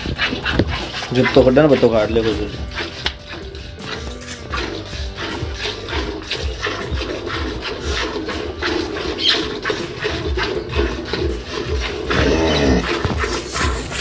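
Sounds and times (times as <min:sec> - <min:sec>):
milk squirting into metal bucket: 0:00.0 - 0:14.0.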